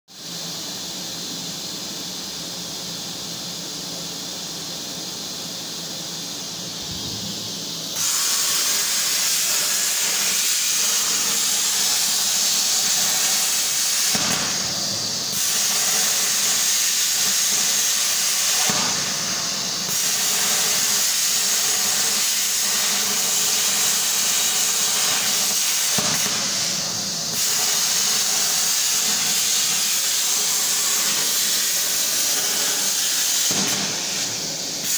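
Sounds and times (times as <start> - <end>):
plasma cutter hissing: 0.1 - 34.9.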